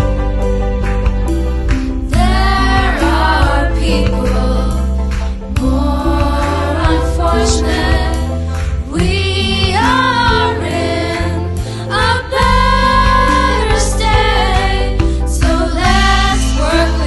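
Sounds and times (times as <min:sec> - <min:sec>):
group singing in unison: 0:02.1 - 0:17.0.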